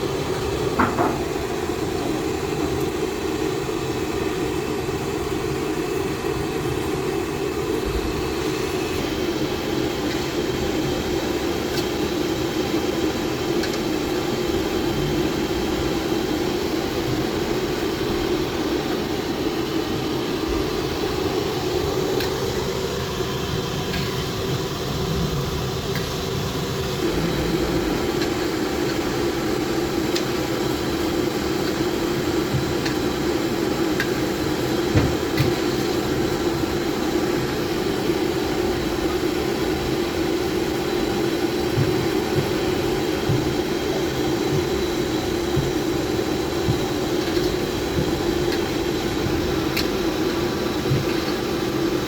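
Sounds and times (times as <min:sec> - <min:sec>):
mechanical rumble and hum: 0:00.0 - 0:52.0.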